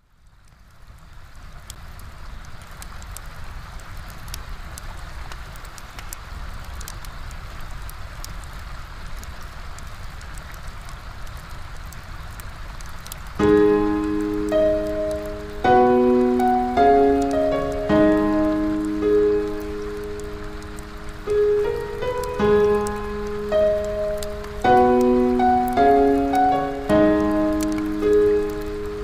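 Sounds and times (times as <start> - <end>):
small ticks: 1.6 - 29.0.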